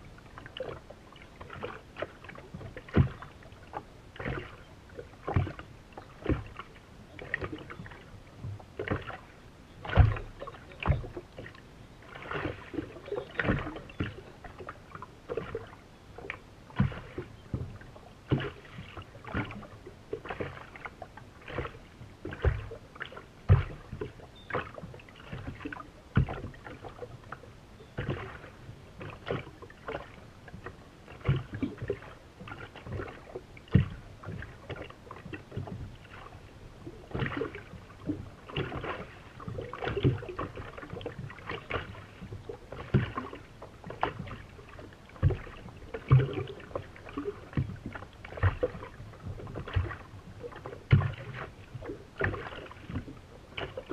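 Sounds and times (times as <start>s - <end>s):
small waves slapping against hull: 0.0s - 53.9s.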